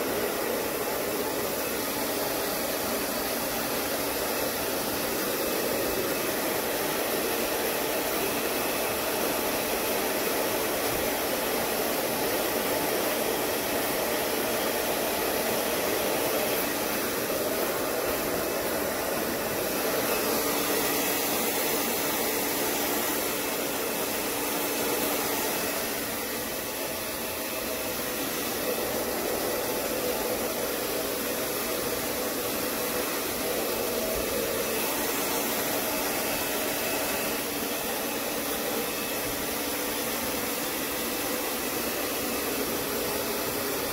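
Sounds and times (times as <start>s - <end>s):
hair dryer blowing: 0.0s - 43.9s.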